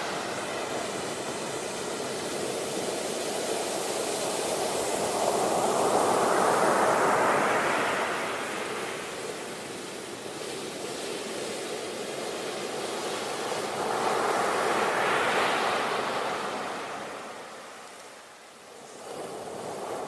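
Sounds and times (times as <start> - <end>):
sea waves washing onto shore: 0.0 - 20.0.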